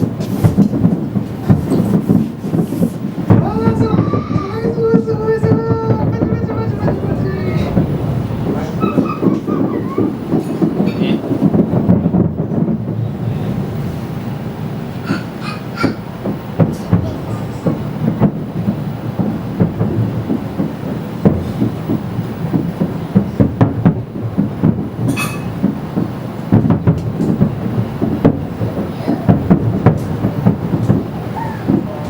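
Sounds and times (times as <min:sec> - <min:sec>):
low rumble of distant fireworks: 0:00.0 - 0:32.0
sharp firework bangs: 0:00.0 - 0:32.0.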